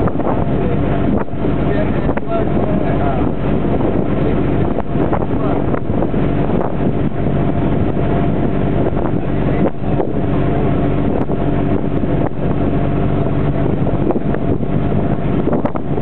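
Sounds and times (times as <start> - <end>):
boat engine humming: 0.0 - 16.0
wind buffeting microphone: 0.0 - 16.0.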